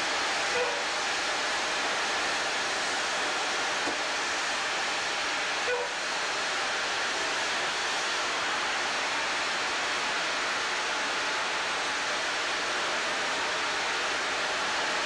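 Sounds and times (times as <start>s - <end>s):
high-pressure water sprays hissing: 0.0s - 15.0s.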